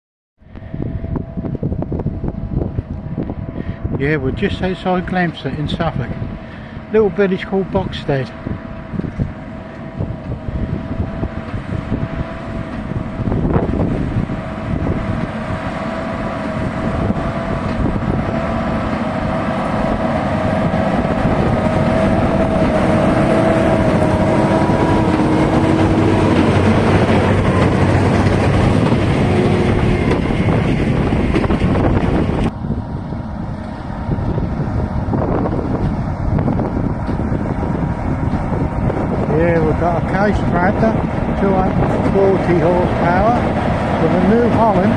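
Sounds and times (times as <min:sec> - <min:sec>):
wind on microphone: 0:00.4 - 0:44.9
tractor engine under load: 0:06.8 - 0:44.9.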